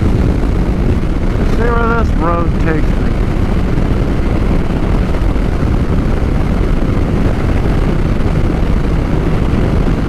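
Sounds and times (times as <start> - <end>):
motorcycle engine drone: 0.0 - 10.0
wind rush on microphone: 0.0 - 10.0.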